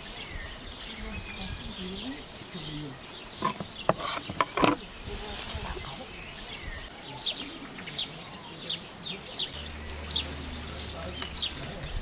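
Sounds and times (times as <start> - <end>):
small songbird chirping: 0.0 - 12.0.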